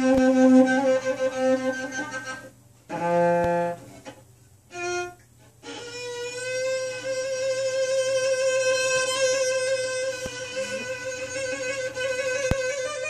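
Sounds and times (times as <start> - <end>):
bowed cello notes: 0.0 - 13.0.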